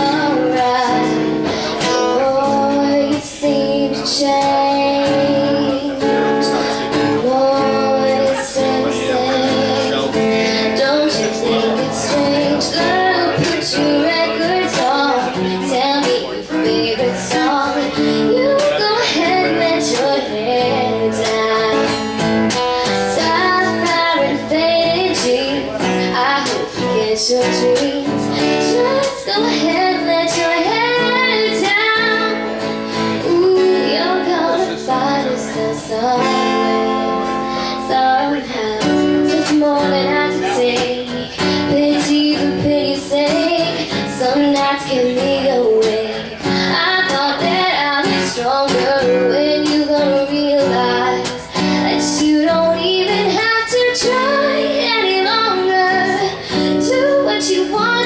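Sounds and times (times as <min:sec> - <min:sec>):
girl singing pop song: 0:00.0 - 0:58.0
strummed acoustic guitar: 0:00.0 - 0:58.0.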